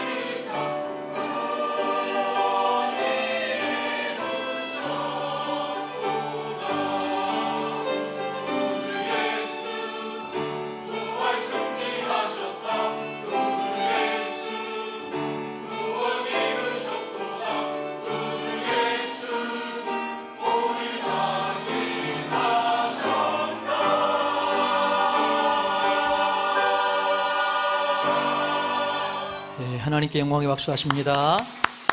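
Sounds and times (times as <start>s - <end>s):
choir singing: 0.0s - 29.8s.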